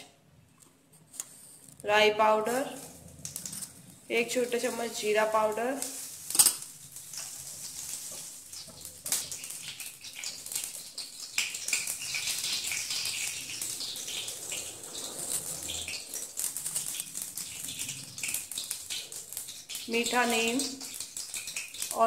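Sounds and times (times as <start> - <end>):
seeds spluttering in hot oil: 2.4 - 22.0.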